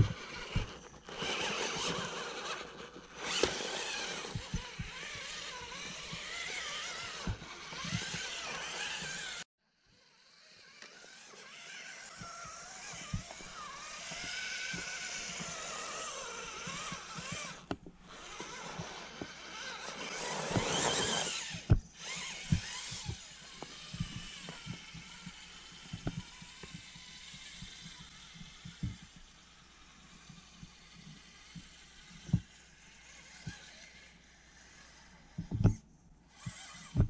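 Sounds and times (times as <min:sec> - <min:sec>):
electric motor and drivetrain whining: 0:00.0 - 0:37.0.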